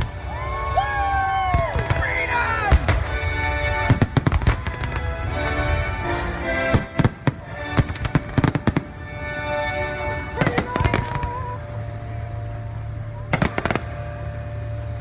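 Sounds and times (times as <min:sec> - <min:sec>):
fireworks show music: 0:00.0 - 0:15.0.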